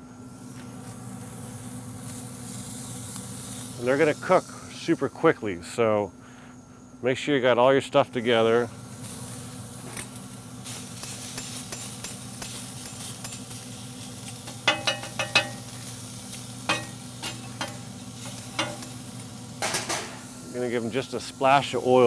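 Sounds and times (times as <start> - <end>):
onions sizzling on griddle: 0.0 - 5.8, 8.2 - 22.0.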